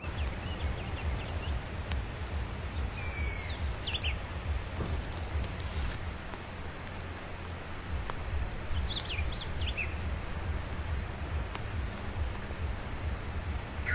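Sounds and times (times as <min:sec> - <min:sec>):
bird chirping: 0:00.0 - 0:13.9
low background rumble: 0:00.0 - 0:13.9.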